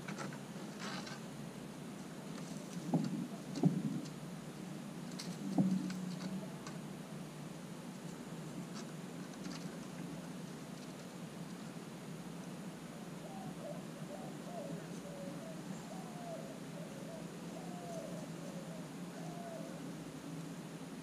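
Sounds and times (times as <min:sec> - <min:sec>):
outdoor background: 0:00.0 - 0:21.0.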